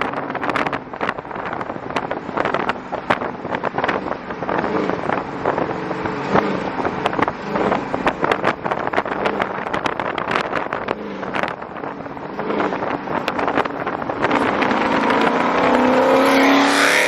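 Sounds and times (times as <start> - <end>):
car exhaust from inside car: 0.0 - 17.0
wind rushing over microphone: 0.0 - 17.0.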